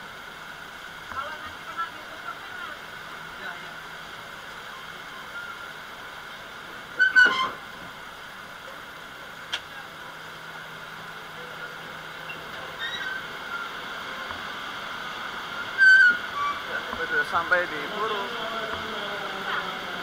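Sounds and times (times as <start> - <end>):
train interior hiss: 0.0 - 20.0.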